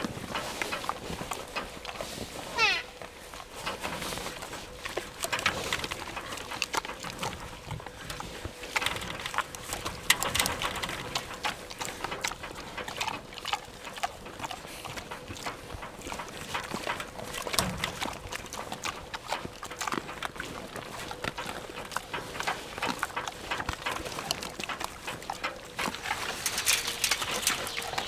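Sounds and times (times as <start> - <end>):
boars chewing and smacking: 0.0 - 28.0.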